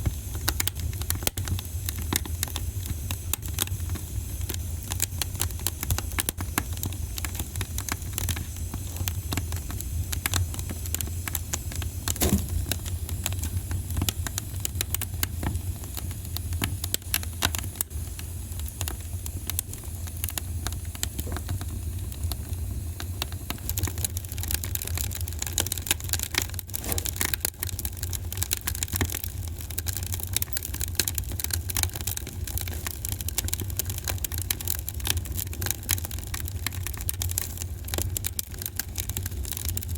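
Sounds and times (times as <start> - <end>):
low rumble of burning: 0.0 - 39.9
wood fire crackling and popping: 0.0 - 39.9.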